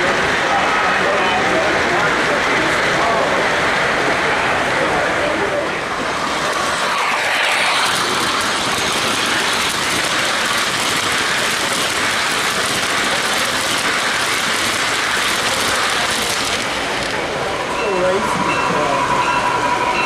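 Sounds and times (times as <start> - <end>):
model train wheels rolling on rails: 0.0 - 20.0.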